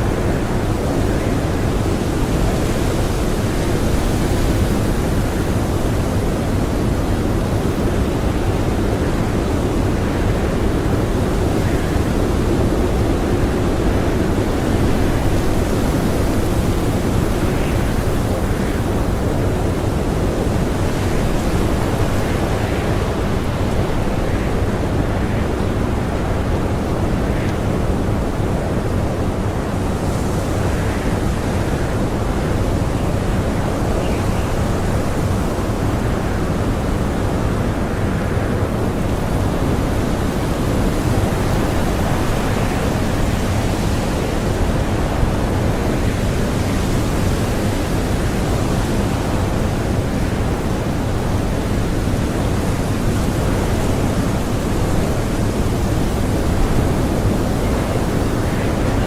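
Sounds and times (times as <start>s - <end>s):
blizzard wind blowing: 0.0s - 59.0s.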